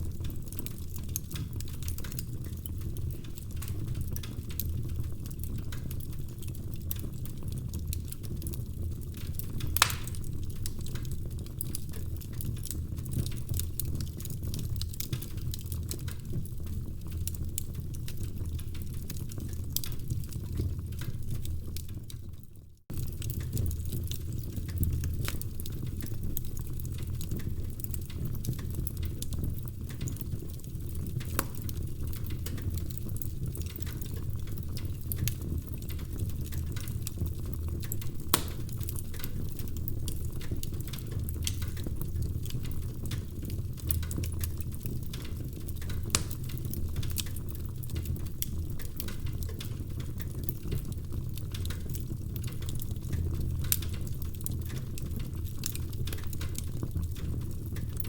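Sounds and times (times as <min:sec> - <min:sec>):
logs crackling in fireplace: 0:00.0 - 0:58.0
low rumble of fire: 0:00.0 - 0:58.0.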